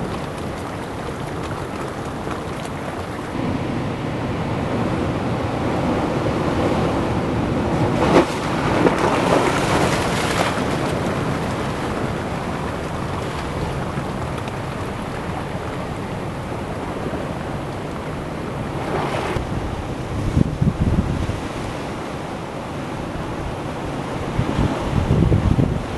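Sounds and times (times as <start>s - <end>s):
ocean surf on rocks: 0.0s - 25.9s.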